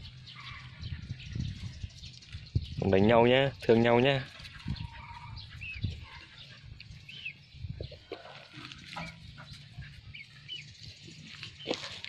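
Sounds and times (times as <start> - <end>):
high chirping animal calls: 0.0 - 2.6, 4.3 - 12.0.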